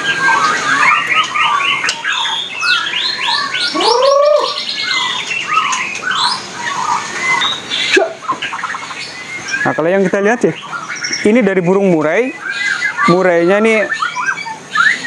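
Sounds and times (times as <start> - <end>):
songbird singing trills: 0.0 - 15.0.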